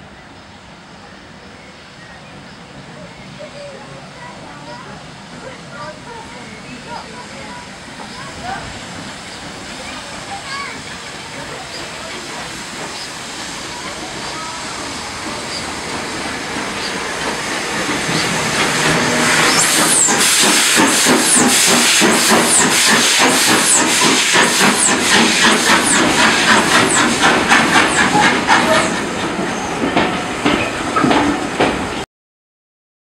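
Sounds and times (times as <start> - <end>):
steam locomotive chuffing: 0.7 - 32.0.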